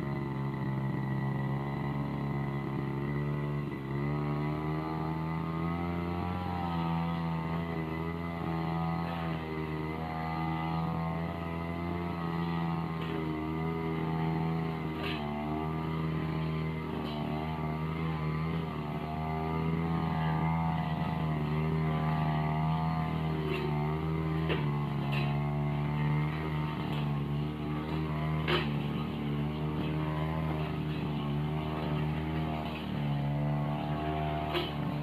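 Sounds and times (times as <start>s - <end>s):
brush cutter engine cutting weeds: 0.0s - 35.0s.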